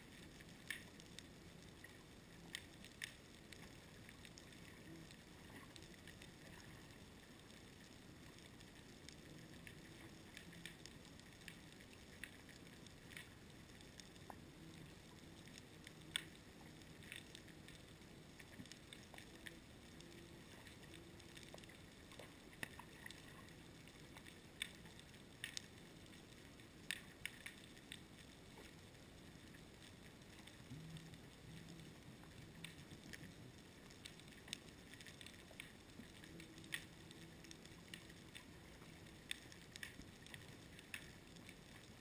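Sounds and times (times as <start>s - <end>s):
sharp irregular underwater clicks: 0.0s - 42.0s
underwater hiss and hum: 0.0s - 42.0s.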